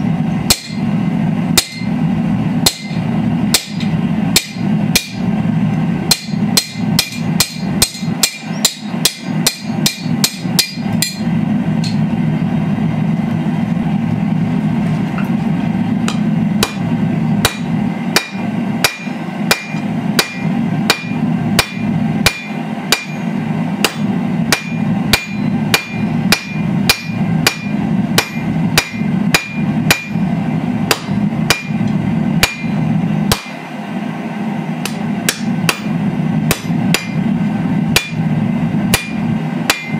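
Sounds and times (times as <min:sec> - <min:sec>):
steady low hum: 0:00.0 - 0:39.9
hammer striking steel on anvil: 0:00.4 - 0:02.0, 0:02.6 - 0:05.3, 0:06.0 - 0:12.2, 0:16.0 - 0:33.7, 0:34.8 - 0:37.3, 0:37.9 - 0:38.3, 0:38.9 - 0:39.9.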